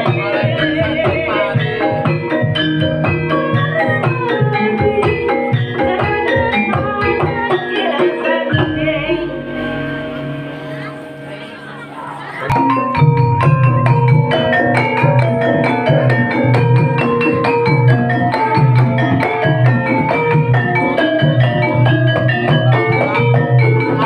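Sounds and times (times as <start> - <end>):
gamelan music: 0.0 - 24.0.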